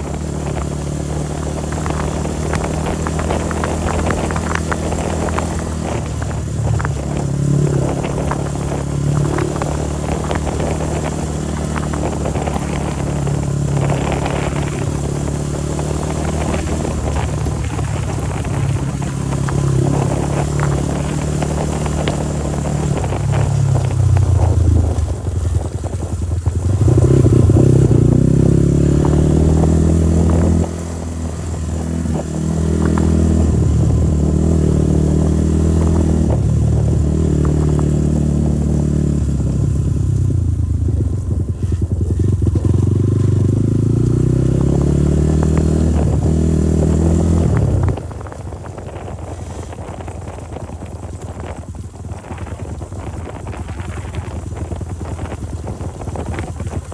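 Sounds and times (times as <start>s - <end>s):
bike rattling on rough ground: 0.0s - 56.9s
motorcycle engine revving: 0.0s - 56.9s.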